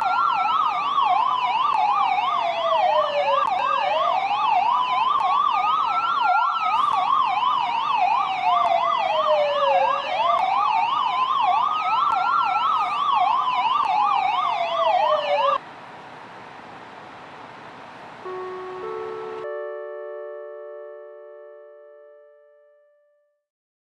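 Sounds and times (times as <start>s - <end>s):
police siren yelp and wail: 0.0s - 15.6s, 18.2s - 22.5s.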